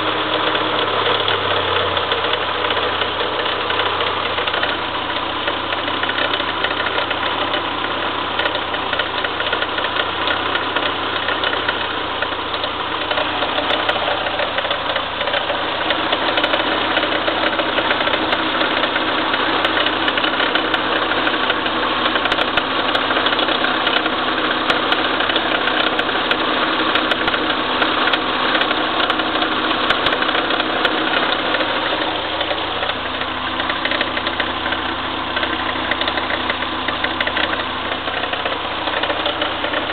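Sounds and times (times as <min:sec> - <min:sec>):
engine idling with mechanical clatter: 0:00.0 - 0:39.9.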